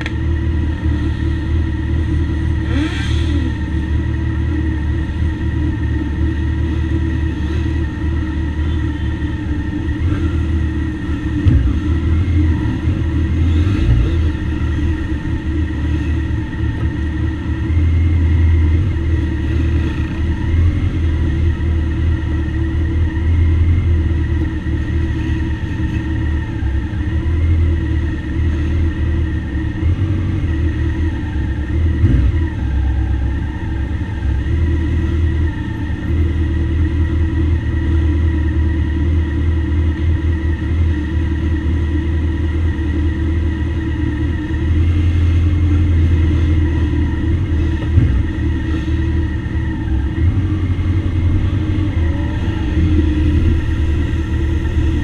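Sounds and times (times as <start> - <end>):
motorcycle engines idling: 0.0 - 55.0.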